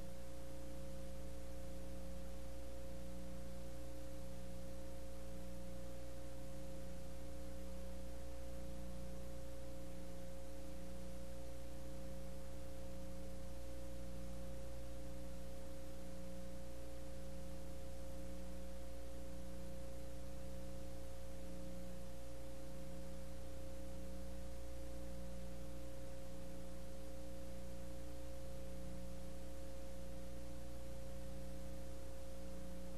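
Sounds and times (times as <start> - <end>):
mains hum with high whine and hiss: 0.0 - 32.9.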